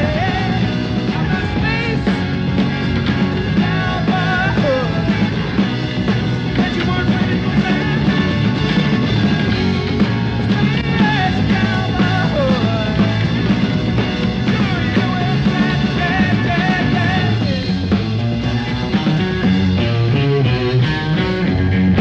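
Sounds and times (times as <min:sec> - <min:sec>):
bending electric guitar: 0:00.0 - 0:22.0
rock band playing: 0:00.0 - 0:22.0.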